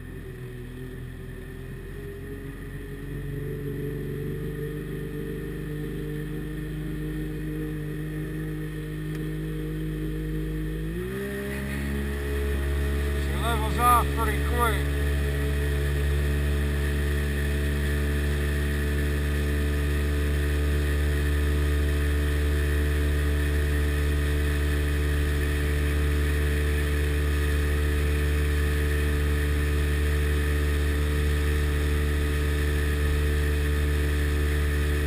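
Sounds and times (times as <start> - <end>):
boat two-stroke engine running: 0.0 - 35.0.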